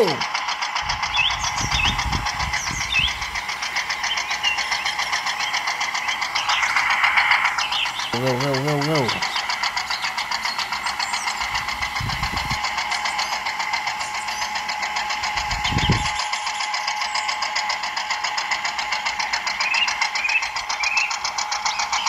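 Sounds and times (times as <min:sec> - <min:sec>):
toy tractor motor buzzing whine: 0:00.0 - 0:22.0.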